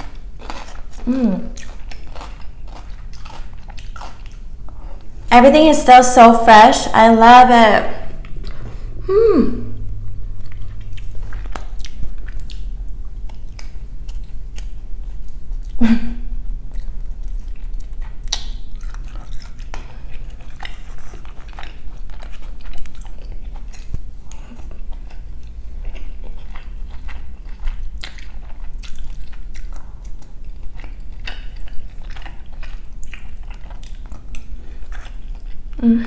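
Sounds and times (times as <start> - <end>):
person chewing food: 0.0 - 5.2, 8.2 - 9.0, 9.7 - 15.8, 16.6 - 35.8.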